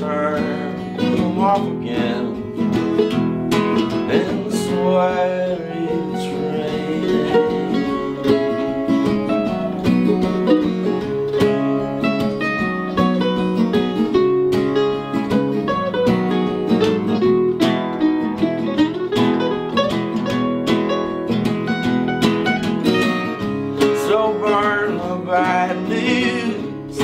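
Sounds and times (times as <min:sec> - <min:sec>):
acoustic guitars playing: 0:00.0 - 0:27.0.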